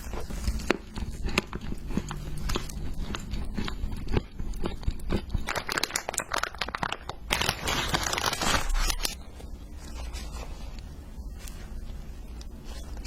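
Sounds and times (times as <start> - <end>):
crunching of crisp food: 0.0 - 13.0.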